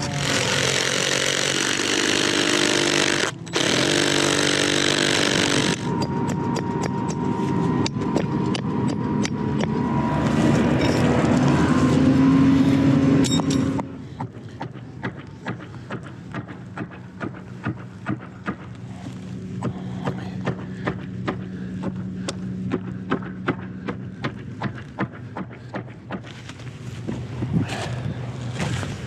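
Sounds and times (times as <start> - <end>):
steady engine hum: 0.0 - 29.0.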